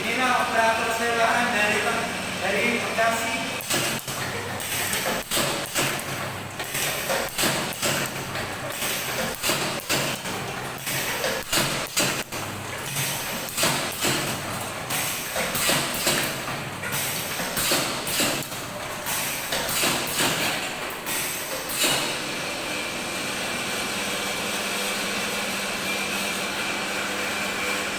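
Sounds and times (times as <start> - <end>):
steady machine hum: 0.0 - 27.9.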